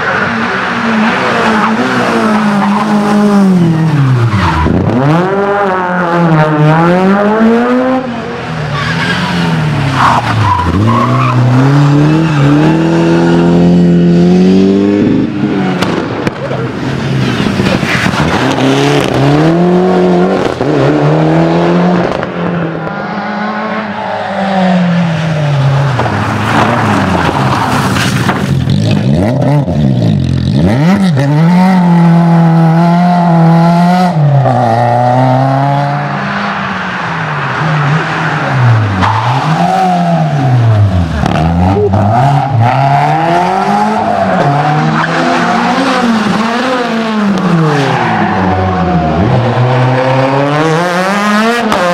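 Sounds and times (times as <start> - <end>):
cars passing by: 0.0 - 51.9
rally car engines revving: 0.0 - 51.9.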